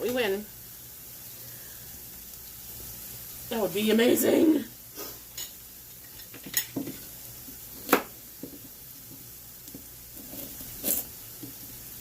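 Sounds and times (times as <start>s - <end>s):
pan sizzling: 0.0s - 12.0s.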